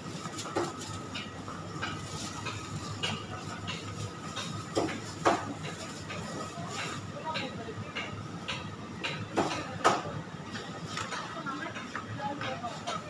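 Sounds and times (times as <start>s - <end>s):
shoppers handling goods: 0.0s - 13.0s.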